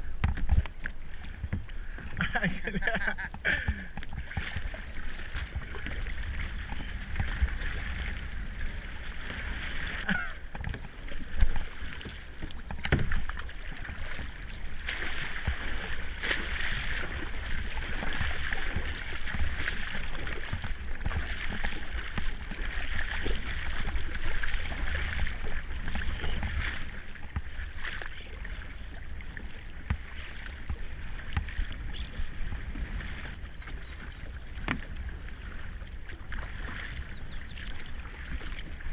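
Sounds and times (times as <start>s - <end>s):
paddle splashing water: 0.0s - 38.9s.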